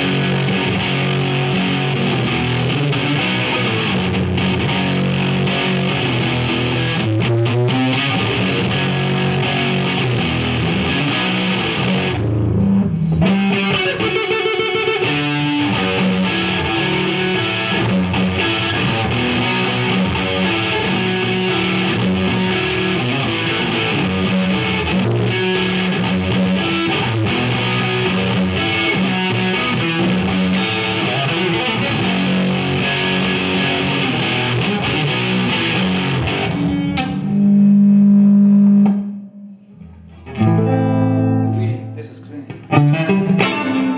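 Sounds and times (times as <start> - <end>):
electric guitar through valve amp: 0.0 - 43.9.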